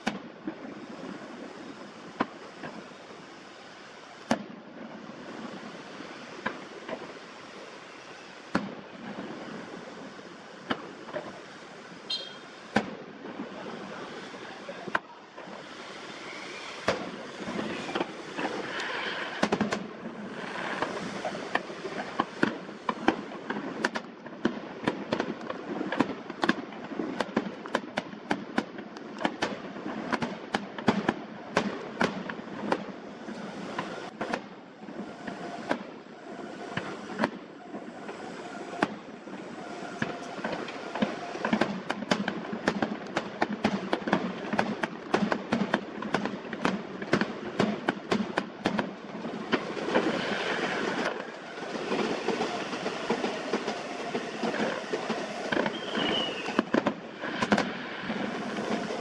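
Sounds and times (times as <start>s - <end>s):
fireworks banging: 0.0s - 59.0s
steady background hiss: 0.0s - 59.0s.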